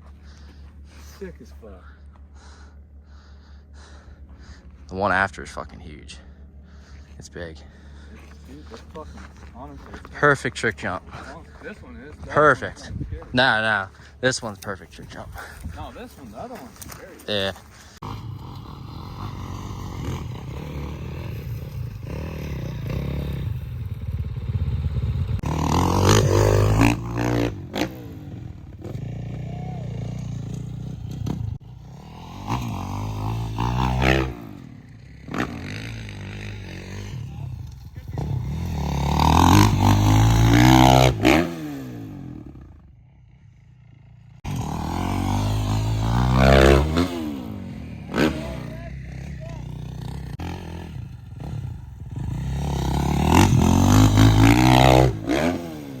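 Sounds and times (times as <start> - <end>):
dirt bike engine revving: 7.6 - 56.0.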